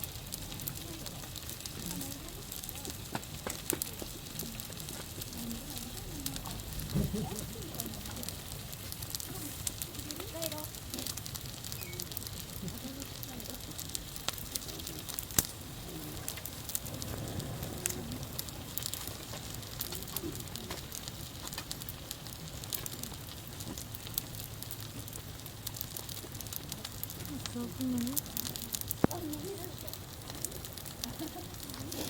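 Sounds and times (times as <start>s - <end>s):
bonfire crackling and popping: 0.0s - 32.0s.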